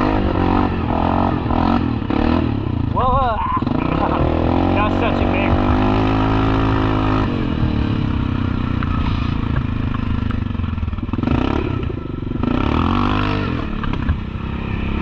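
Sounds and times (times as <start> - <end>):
atv engine under throttle: 0.0 - 15.0.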